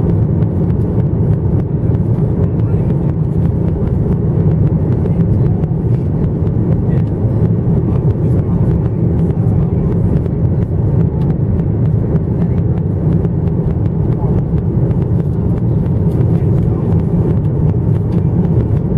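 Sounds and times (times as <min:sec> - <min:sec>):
airflow noise: 0:00.0 - 0:18.9
airplane cabin engine drone: 0:00.0 - 0:18.9.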